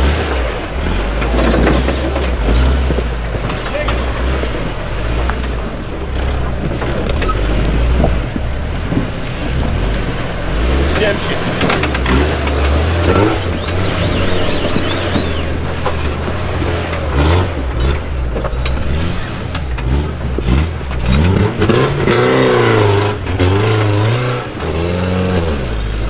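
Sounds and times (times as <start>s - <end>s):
knocks and clatter: 0.0s - 26.0s
truck engine revving hard: 0.0s - 26.0s.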